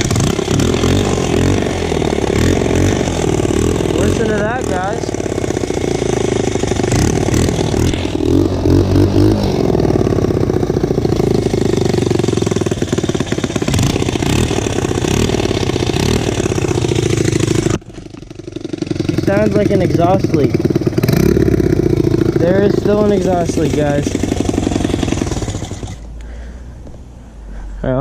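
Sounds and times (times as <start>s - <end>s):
dirt bike engine revving: 0.0s - 26.6s.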